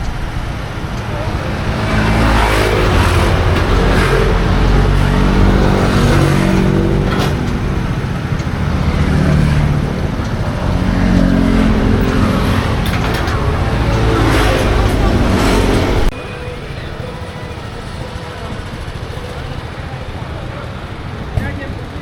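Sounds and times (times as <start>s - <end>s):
road noise: 0.0s - 22.0s
traffic engines humming: 0.0s - 22.0s.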